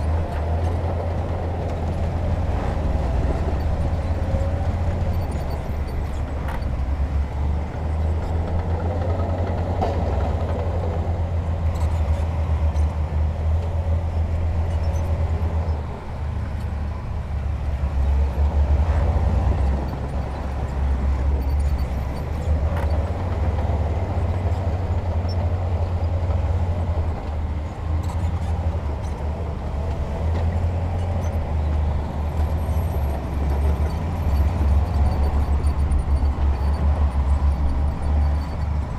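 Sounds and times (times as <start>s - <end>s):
diesel earthmoving machinery rumbling: 0.0s - 38.9s.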